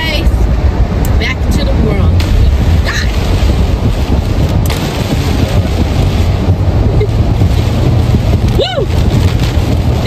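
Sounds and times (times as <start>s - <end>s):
road and wind noise in car: 0.0s - 10.0s.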